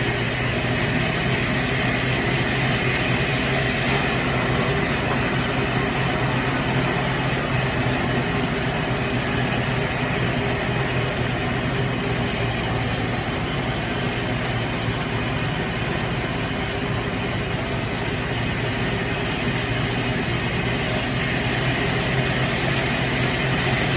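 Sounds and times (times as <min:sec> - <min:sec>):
sawmill machinery humming: 0:00.0 - 0:23.9.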